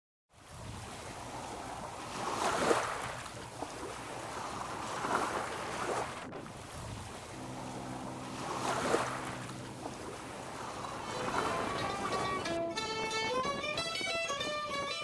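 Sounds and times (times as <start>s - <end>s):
water rushing along ship hull: 0.3s - 15.0s
wind on microphone: 0.4s - 15.0s.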